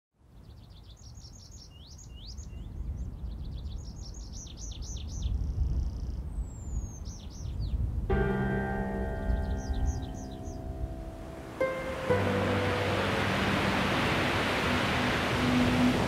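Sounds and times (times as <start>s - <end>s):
songbird chirping: 0.2s - 16.0s.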